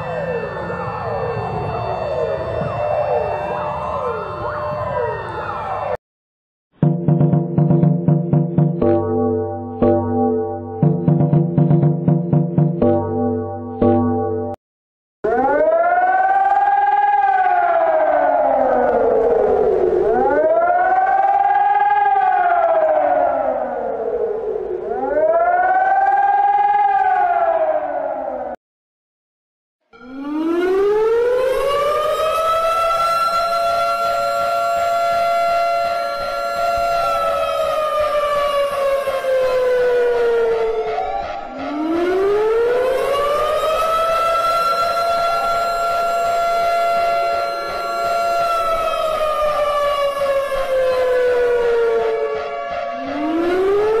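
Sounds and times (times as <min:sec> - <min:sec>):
warning siren wailing: 0:00.0 - 0:06.0, 0:06.8 - 0:14.6, 0:15.2 - 0:28.6, 0:30.0 - 0:54.0.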